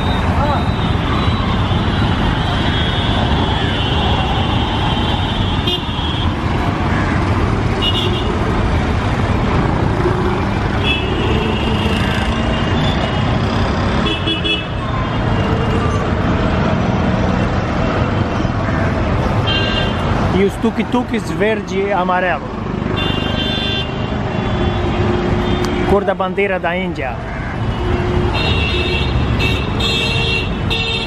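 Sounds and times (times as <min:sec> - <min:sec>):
traffic engines passing: 0:00.0 - 0:31.0.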